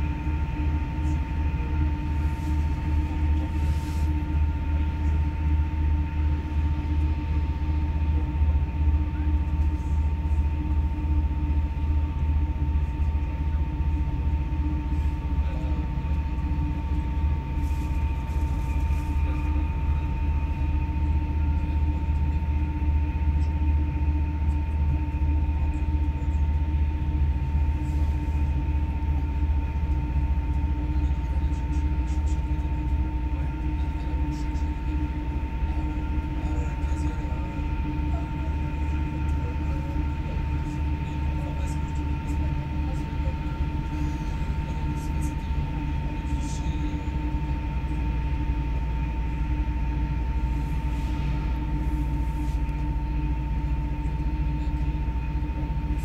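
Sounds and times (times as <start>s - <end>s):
low hum: 0.0s - 56.0s
train rumble: 0.0s - 56.0s.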